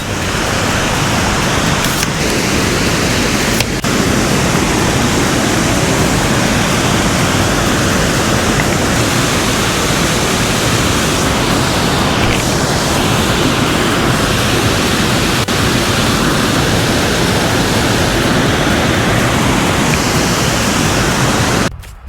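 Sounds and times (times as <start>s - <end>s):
waterfall rushing: 0.0s - 21.7s.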